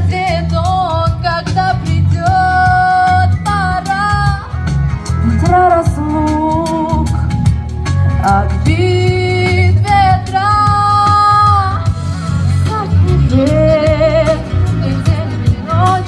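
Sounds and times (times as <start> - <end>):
person singing with vibrato: 0.0 - 7.4, 8.1 - 16.0
backing track with bass and beat: 0.0 - 16.0.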